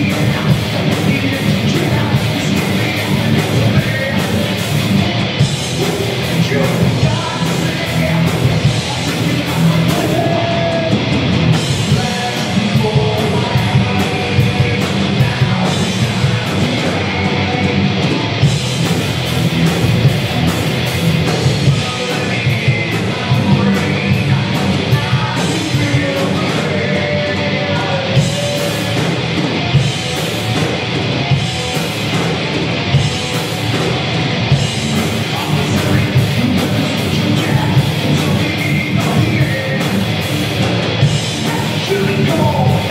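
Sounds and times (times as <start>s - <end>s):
distorted electric guitars: 0.0s - 42.9s
pounding drum kit: 0.0s - 42.9s.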